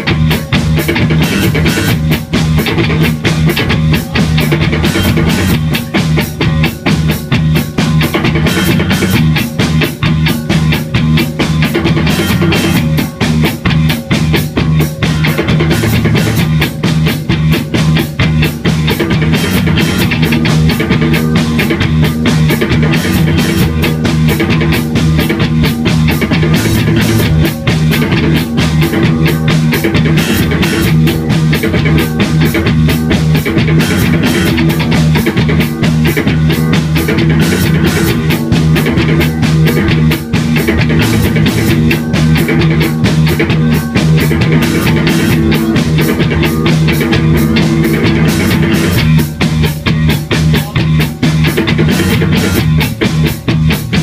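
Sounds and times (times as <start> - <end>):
drum kit beat: 0.0 - 54.0
live rock band playing: 0.0 - 54.0.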